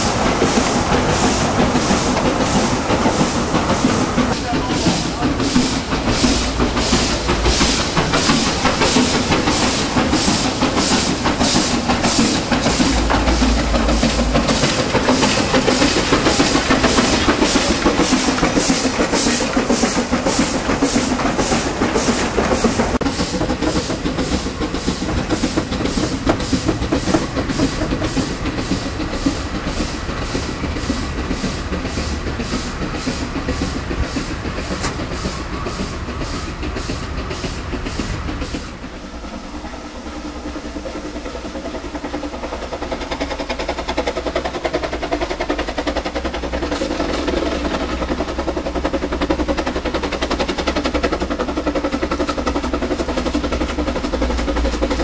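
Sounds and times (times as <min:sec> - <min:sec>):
steam locomotive exhaust beating: 0:00.0 - 0:55.0
wagons rattling on rails: 0:00.0 - 0:55.0.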